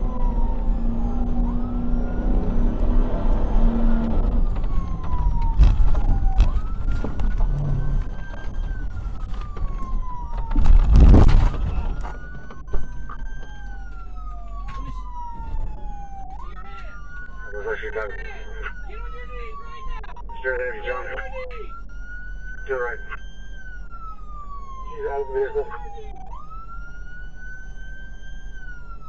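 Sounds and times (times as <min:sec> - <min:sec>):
police siren wailing: 0:00.0 - 0:29.0.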